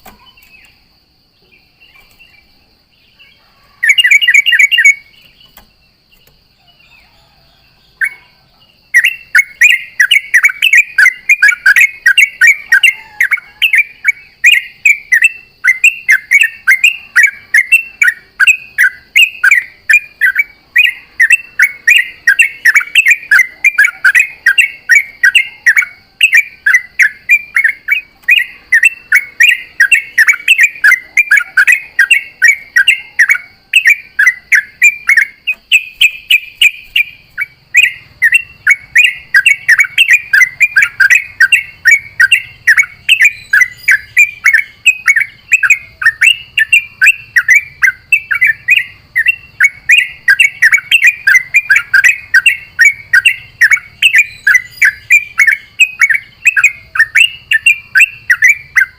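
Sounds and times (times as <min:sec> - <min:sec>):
bird bubbly chattering song: 0:03.8 - 0:05.6, 0:08.9 - 0:58.9.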